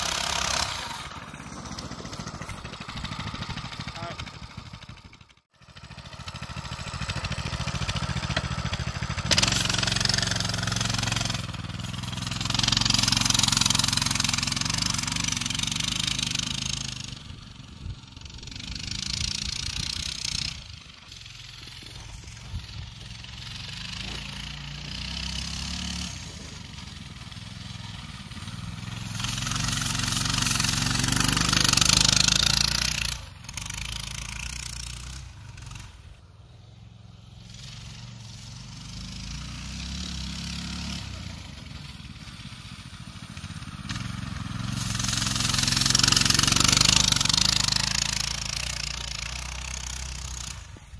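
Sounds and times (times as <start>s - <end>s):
minibike engine running: 0.0s - 50.9s.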